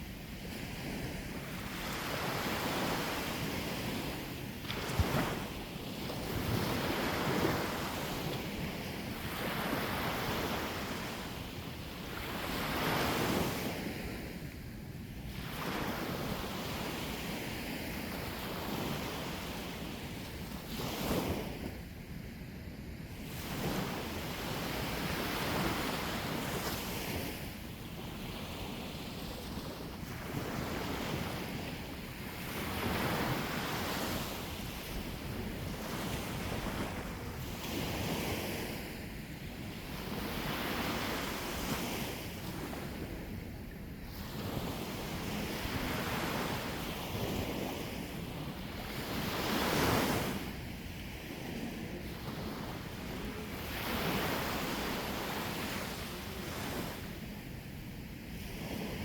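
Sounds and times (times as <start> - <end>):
sea waves breaking on shore: 0.0 - 21.9, 23.1 - 59.0.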